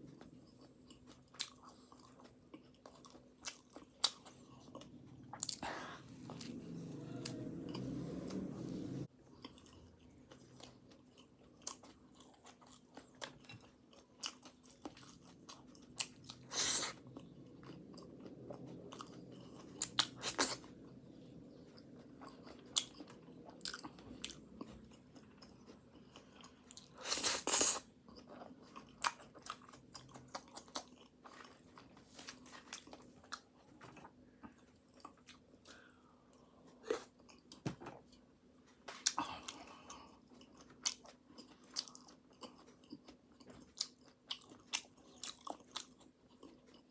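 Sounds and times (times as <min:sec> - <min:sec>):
chewing flaky pastry: 0:00.0 - 0:46.9.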